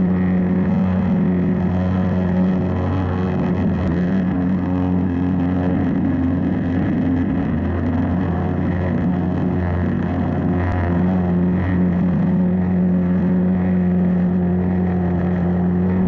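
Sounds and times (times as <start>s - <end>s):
low engine-like drone: 0.0s - 16.0s.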